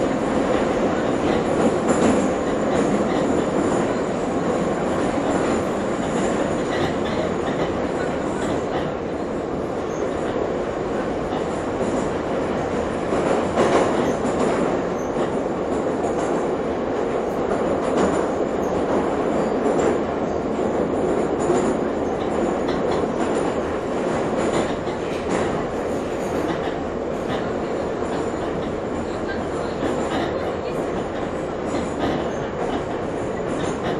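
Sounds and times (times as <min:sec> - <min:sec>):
train wheels rumbling: 0:00.0 - 0:33.9.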